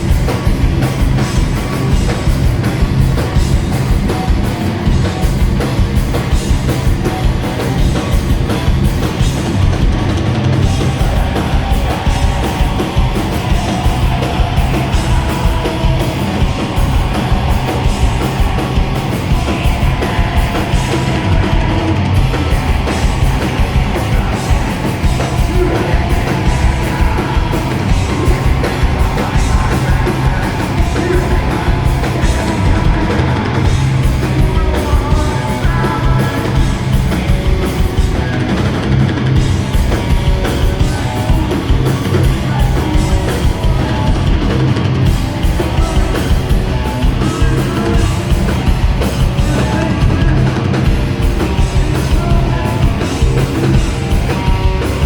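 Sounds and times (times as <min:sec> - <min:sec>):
distorted guitars and bass: 0:00.0 - 0:55.0
fast pounding drums: 0:00.0 - 0:55.0
yelled vocals: 0:00.0 - 0:55.0.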